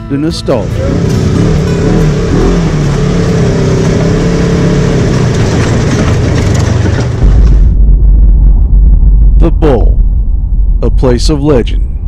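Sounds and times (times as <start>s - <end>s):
off-road vehicle engine running: 0.5s - 11.1s
loud low rumble: 0.6s - 12.0s.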